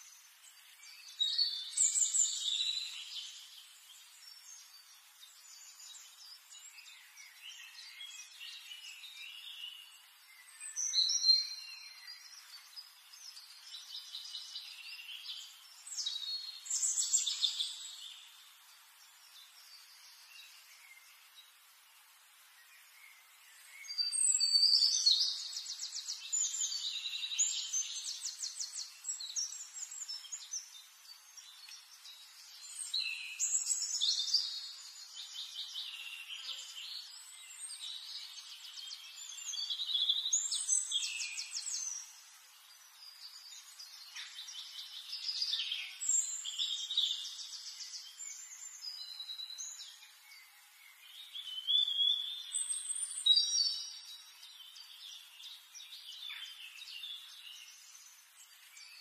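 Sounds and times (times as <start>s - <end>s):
finches singing trilled notes: 0.0s - 59.0s.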